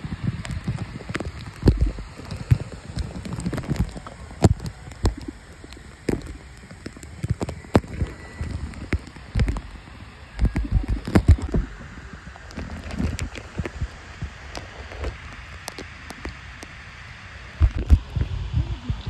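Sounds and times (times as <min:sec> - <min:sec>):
water splashing and dripping: 0:00.0 - 0:16.8.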